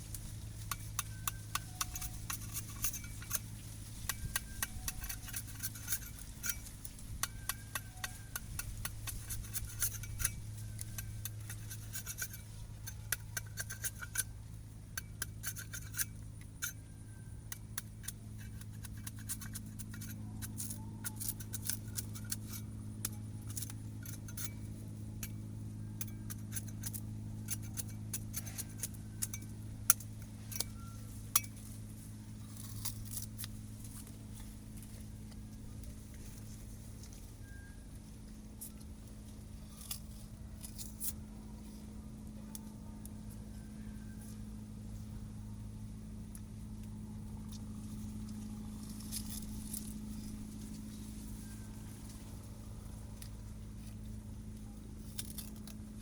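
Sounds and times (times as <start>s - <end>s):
knife scraping sugarcane: 0.0s - 41.2s, 47.4s - 52.4s, 53.2s - 56.0s
steady low hum: 0.0s - 56.0s.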